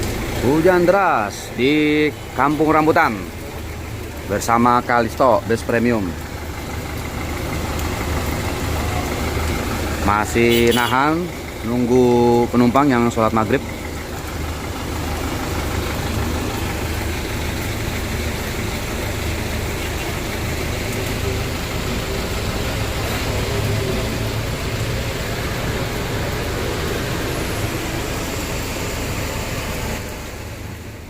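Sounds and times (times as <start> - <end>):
bus engine idling: 0.0 - 31.0
heavy rain hissing: 0.0 - 31.0.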